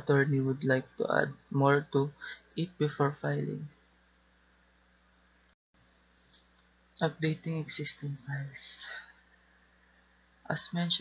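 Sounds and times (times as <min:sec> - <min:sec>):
faint hiss and low hum: 0:00.0 - 0:11.0.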